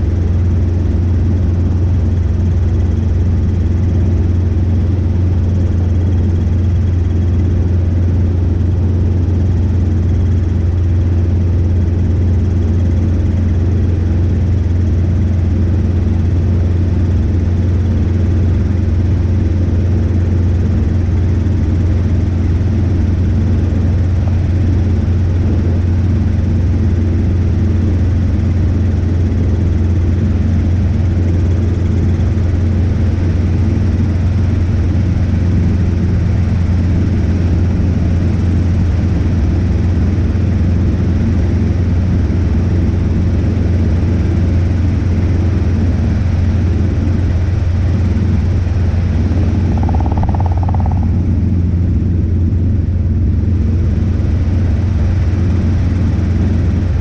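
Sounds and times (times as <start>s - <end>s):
helicopter engine and rotors droning: 0.0s - 57.0s.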